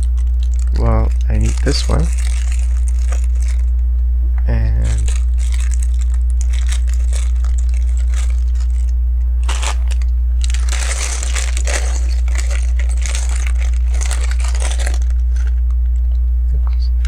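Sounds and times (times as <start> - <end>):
plastic bag crinkling: 0.0 - 3.8, 4.8 - 15.8
steady low hum: 0.0 - 17.0.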